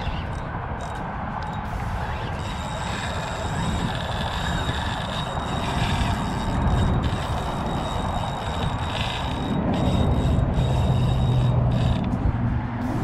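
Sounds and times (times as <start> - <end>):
fishing reel cranking: 0.0 - 12.4.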